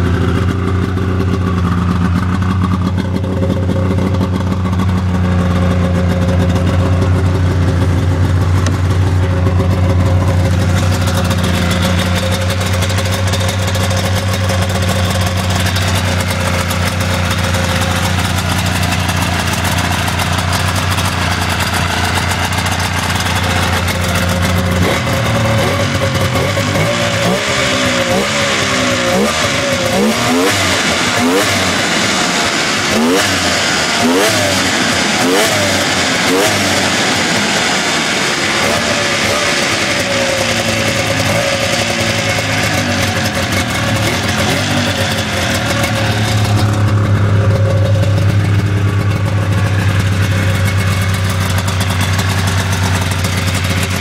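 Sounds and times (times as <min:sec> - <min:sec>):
snowmobile engine idling and revving: 0:00.0 - 0:54.0.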